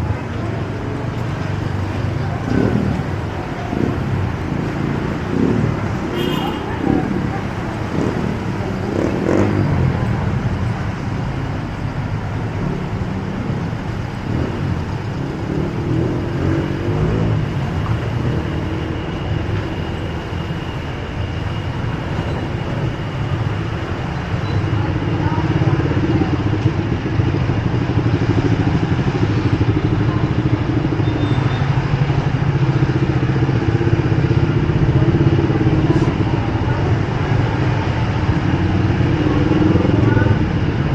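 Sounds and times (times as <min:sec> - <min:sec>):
car engines: 0:00.0 - 0:40.9
motorcycle engines: 0:00.0 - 0:40.9.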